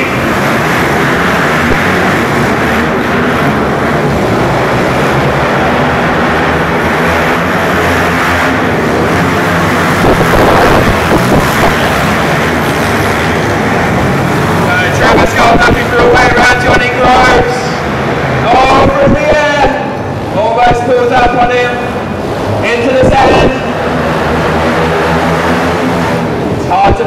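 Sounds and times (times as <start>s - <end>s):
mini bike engines revving: 0.0s - 27.0s.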